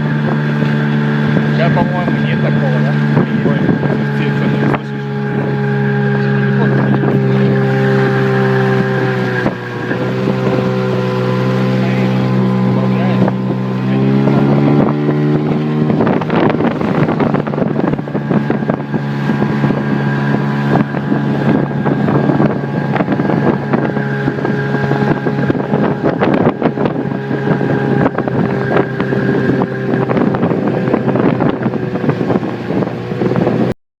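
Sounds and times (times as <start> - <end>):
wind buffeting microphone: 0.0 - 33.7
outboard motor running: 0.0 - 33.8.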